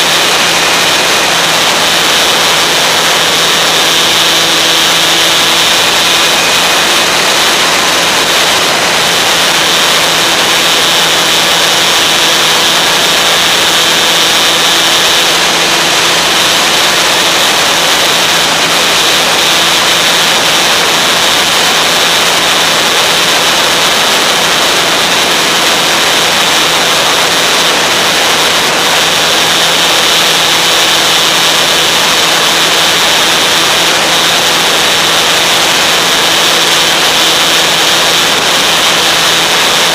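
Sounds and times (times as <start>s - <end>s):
electric motor and propeller drone: 0.0s - 39.9s.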